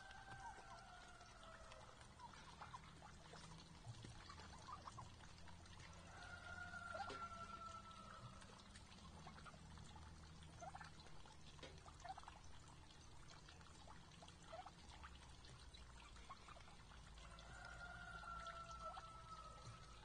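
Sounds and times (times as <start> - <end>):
turkeys pecking ticks and clicks: 0.0 - 20.0.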